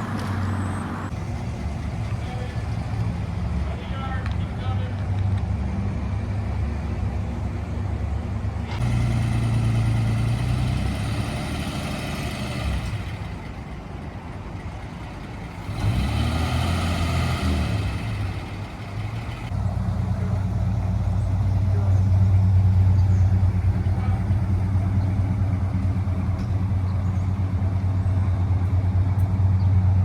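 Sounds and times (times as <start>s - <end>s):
car engines idling: 0.0s - 30.0s.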